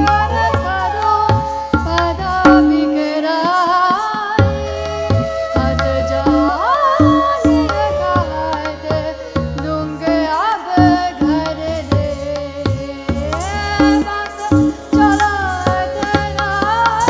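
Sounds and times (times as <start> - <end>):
tabla drumming: 0.0 - 17.0.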